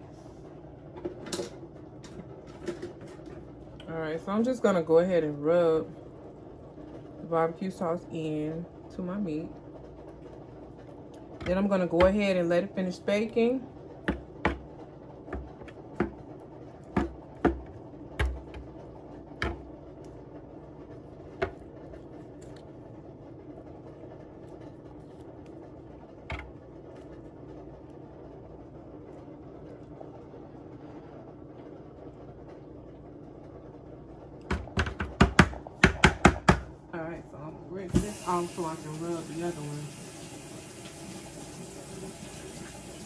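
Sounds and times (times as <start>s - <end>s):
steady low hum: 0.0s - 39.8s.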